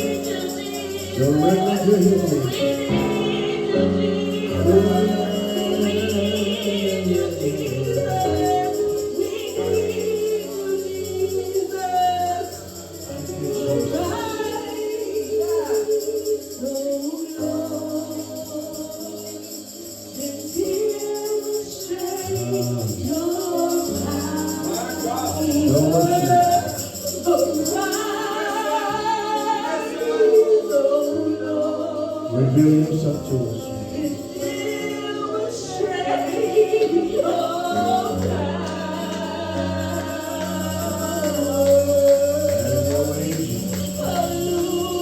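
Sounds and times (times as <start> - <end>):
slow gospel music: 0.0 - 45.0
tambourine shaking: 0.0 - 45.0.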